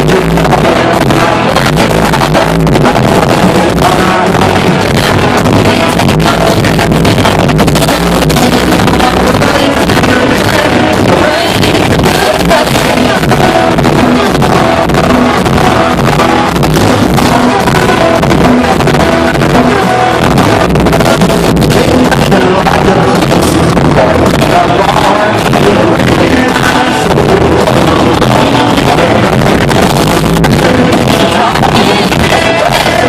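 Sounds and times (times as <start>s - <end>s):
country-rock band playing: 0.0s - 33.0s
person singing: 0.0s - 33.0s.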